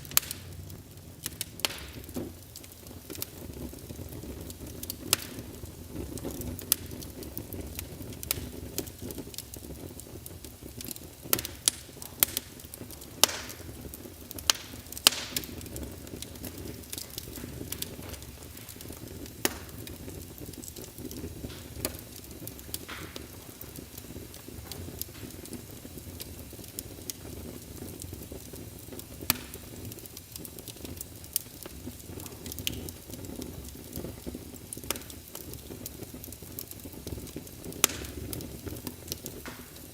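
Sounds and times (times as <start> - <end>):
fire burning low rush: 0.0 - 39.9
fire crackling and popping: 0.0 - 39.9.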